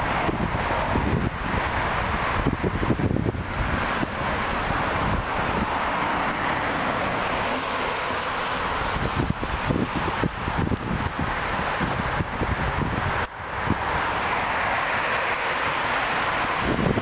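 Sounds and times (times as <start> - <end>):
road traffic hiss: 0.0 - 17.0
wind buffeting microphone: 0.0 - 17.0.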